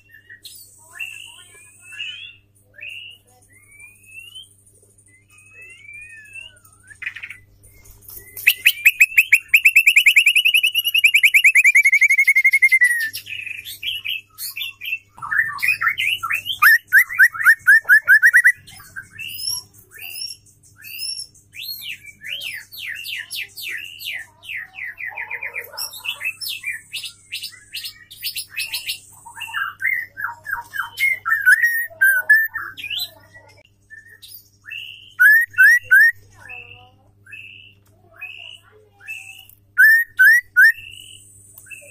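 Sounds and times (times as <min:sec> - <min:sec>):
bird singing varied song: 0:00.0 - 0:41.9.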